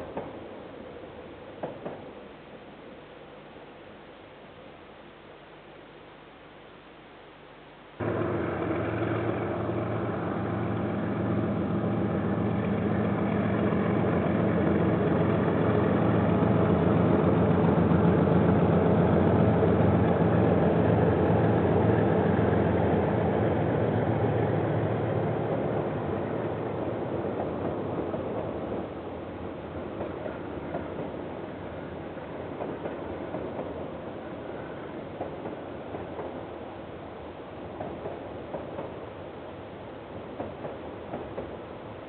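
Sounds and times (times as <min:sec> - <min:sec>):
diesel locomotive engine drone: 0:07.8 - 0:42.0.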